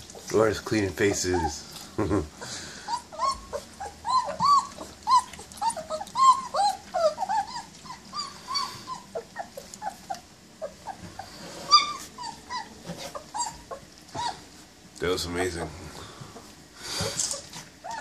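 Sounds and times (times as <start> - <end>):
puppies whimpering and squeaking: 0.0 - 18.0.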